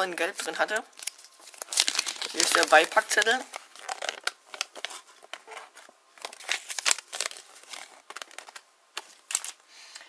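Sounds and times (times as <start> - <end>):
paper leaflet crinkling: 0.4 - 9.6.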